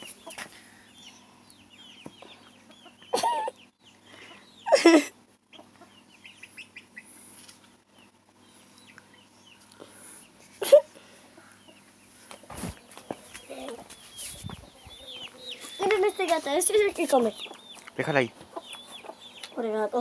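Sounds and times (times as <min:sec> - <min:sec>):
chicken wavering calls: 0:00.0 - 0:20.0
chickens peeping: 0:00.0 - 0:20.0.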